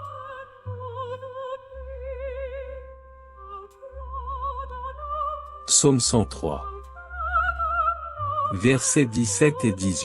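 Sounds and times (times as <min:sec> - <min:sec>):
slow sustained melody: 0:00.0 - 0:10.0.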